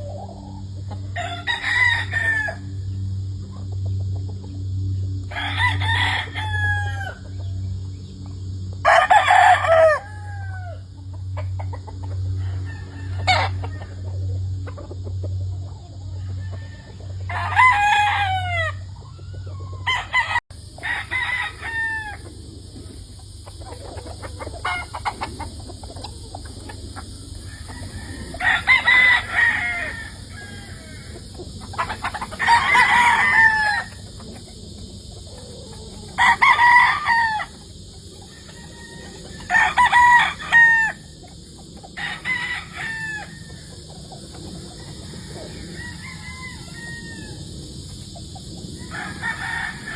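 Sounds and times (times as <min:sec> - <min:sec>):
roosters crowing: 0:00.0 - 0:49.9.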